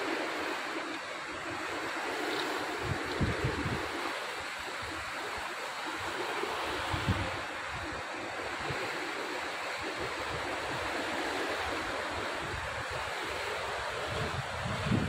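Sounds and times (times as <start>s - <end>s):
sea surf washing against rocks: 0.0s - 15.0s
wind buffeting microphone: 1.3s - 9.1s, 9.8s - 15.0s.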